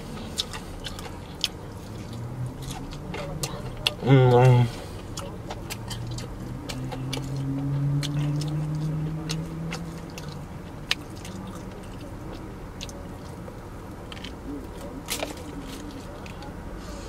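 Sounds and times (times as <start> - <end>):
crunchy chewing: 0.0 - 16.9
low steady hum: 0.0 - 17.0.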